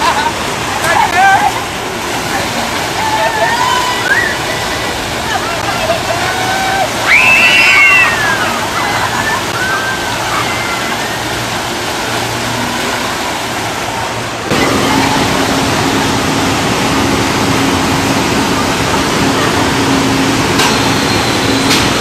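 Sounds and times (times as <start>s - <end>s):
rushing churning water: 0.0s - 22.0s
steady low hum: 0.0s - 22.0s.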